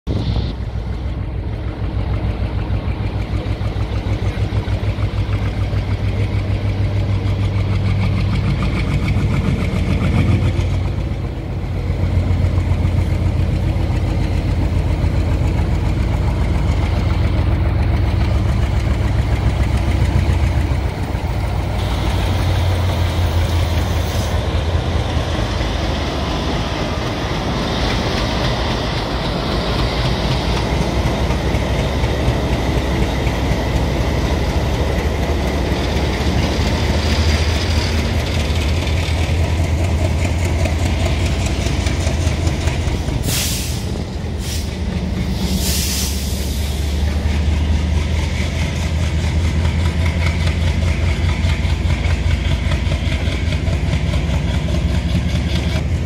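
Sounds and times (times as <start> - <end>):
locomotive diesel engine droning: 0.1 - 56.0.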